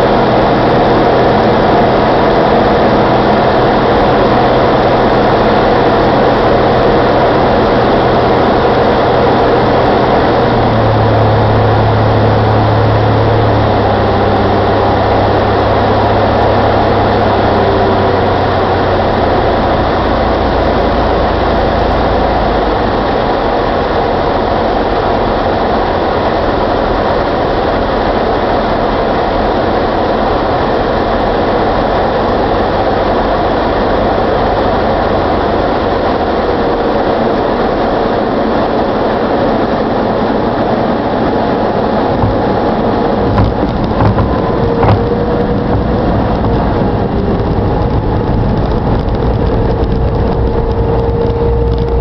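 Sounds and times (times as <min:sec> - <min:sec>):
aircraft engine and propeller drone: 0:00.0 - 0:52.0
airflow rushing: 0:00.0 - 0:52.0.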